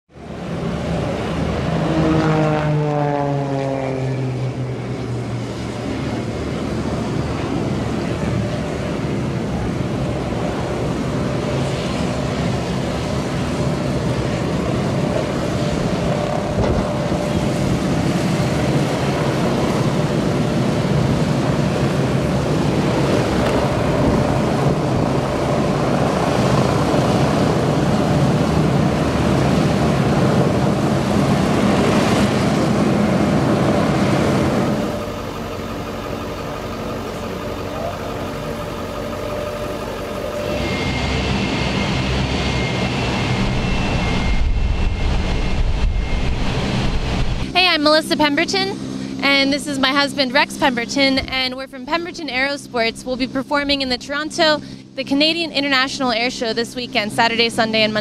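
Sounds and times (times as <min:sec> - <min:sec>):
propeller airplane flying past: 0:00.1 - 0:58.0.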